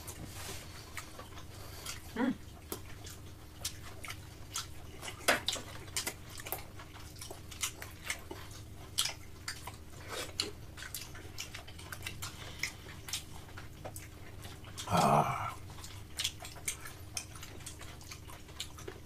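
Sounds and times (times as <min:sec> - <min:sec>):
low steady hum: 0:00.0 - 0:19.0
people chewing: 0:00.0 - 0:19.0.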